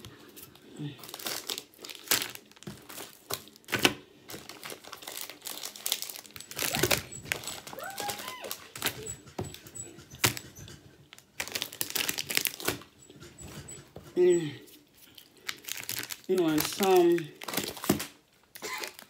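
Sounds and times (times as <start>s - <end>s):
plastic wrappers crinkling: 0.4s - 9.2s, 10.2s - 13.0s, 14.7s - 19.0s.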